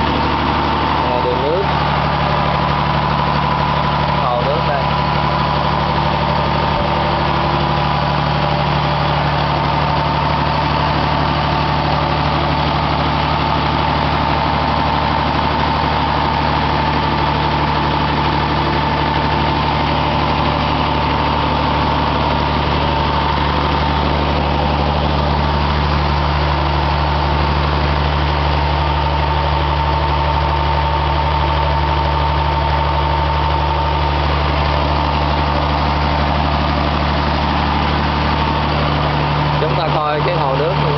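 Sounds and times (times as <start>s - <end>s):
engine running with low hum: 0.0s - 40.9s.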